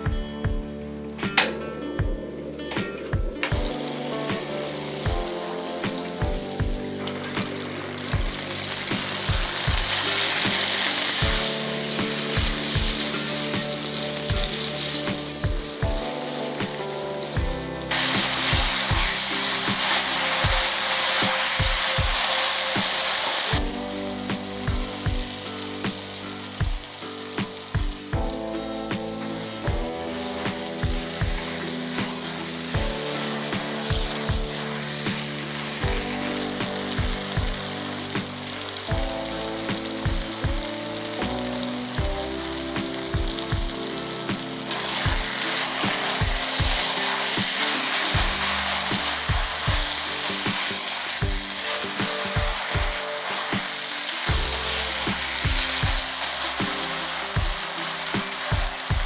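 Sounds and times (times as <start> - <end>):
noodles sizzling in a wok: 0.9 - 59.0.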